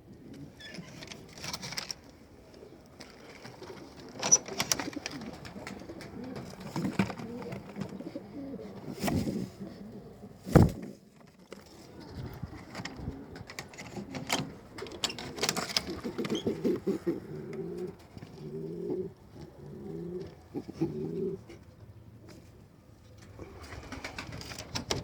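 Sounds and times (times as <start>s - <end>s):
pigeons cooing: 0.0s - 10.4s, 11.8s - 22.6s.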